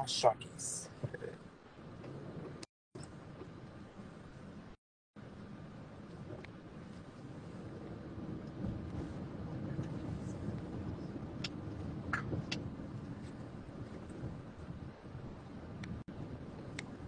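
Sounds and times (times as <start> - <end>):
car road and engine rumble: 0.1 - 17.0.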